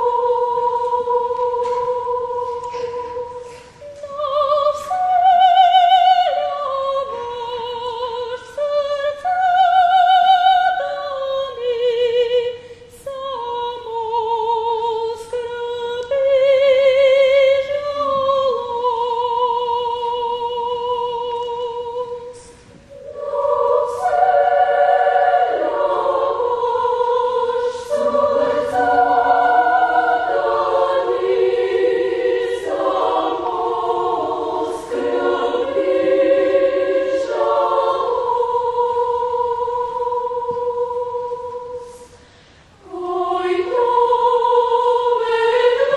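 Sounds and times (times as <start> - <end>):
children's choir singing in harmony: 0.0 - 45.9.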